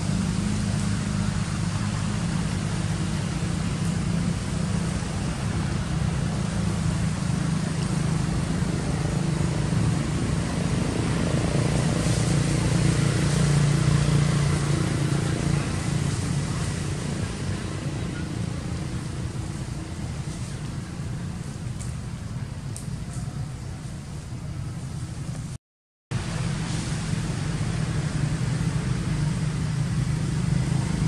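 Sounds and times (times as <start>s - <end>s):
low engine drone: 0.0s - 31.0s.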